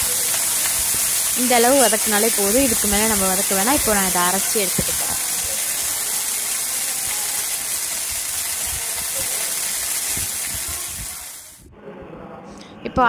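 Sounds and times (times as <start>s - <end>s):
chillies sizzling in oil: 0.0s - 11.6s.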